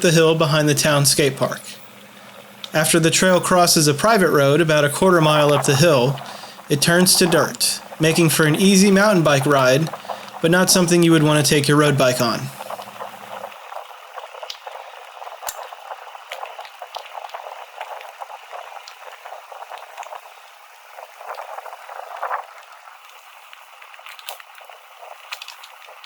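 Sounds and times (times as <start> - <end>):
bike tyres rolling on trail: 0.0 - 26.0.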